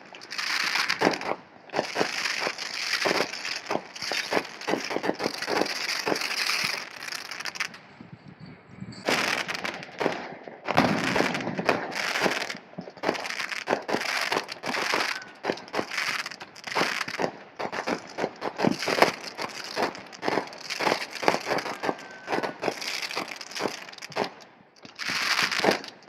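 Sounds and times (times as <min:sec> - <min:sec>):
fireworks crackling and popping: 0:00.0 - 0:26.0.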